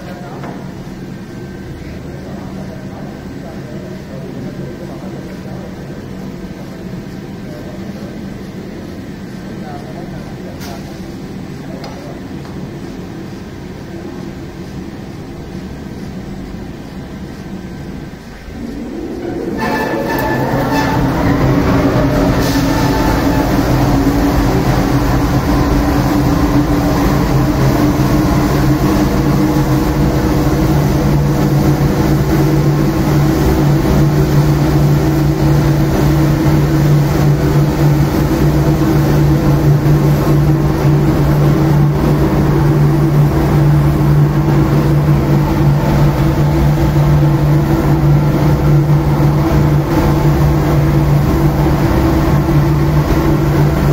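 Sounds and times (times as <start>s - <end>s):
coffee roaster machine hum: 0.0s - 53.9s.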